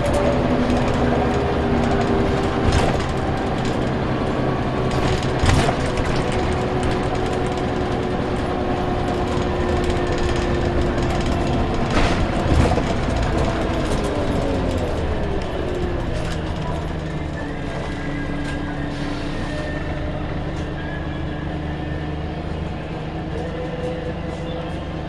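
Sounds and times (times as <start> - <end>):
bus diesel engine drone: 0.0 - 25.0.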